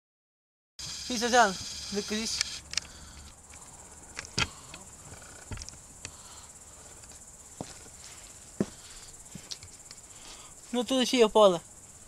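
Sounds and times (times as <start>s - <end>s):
crickets trilling: 0.8s - 12.0s.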